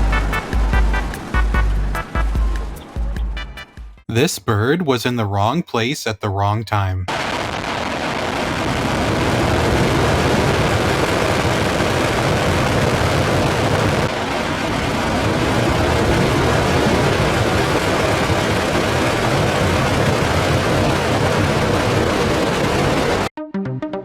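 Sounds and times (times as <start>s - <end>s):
rocket engines rumbling: 0.0s - 3.2s, 4.1s - 23.3s.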